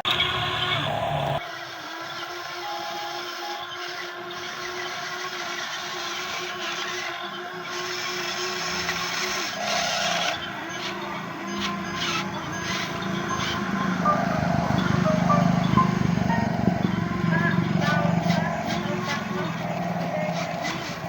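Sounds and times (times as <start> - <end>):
small electric motor whining: 0.0 - 21.0.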